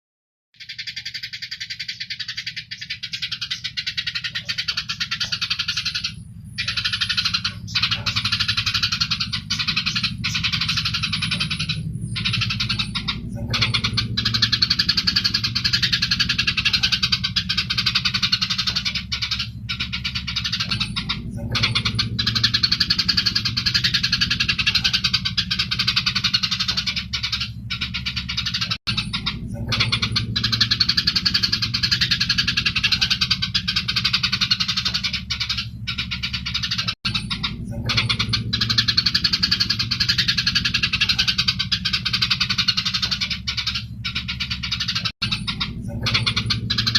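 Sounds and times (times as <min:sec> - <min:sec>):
low hum: 0:00.6 - 0:46.9
sparrows chattering: 0:00.6 - 0:46.9.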